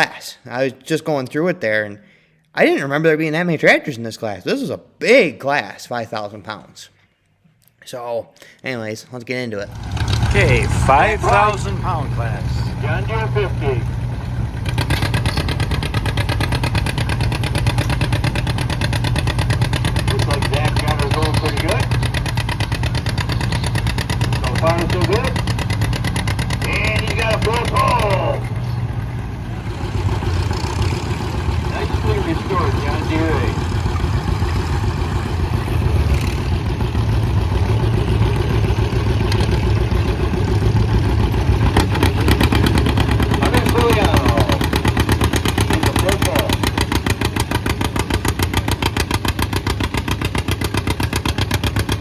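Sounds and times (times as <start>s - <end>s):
tractor engine popping exhaust: 9.7s - 52.0s.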